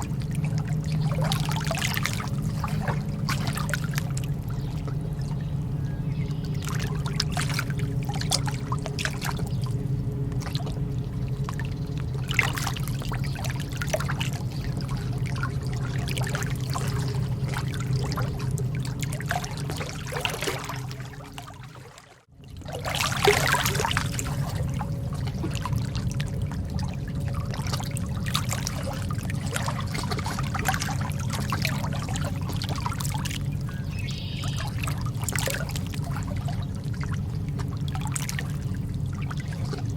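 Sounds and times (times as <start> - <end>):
low rumble: 0.0 - 39.9
water trickling and splashing: 0.0 - 39.9.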